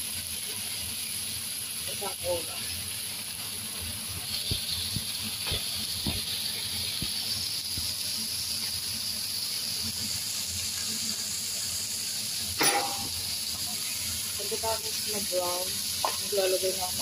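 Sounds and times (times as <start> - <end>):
meat and onions sizzling in a pan: 0.0 - 17.0.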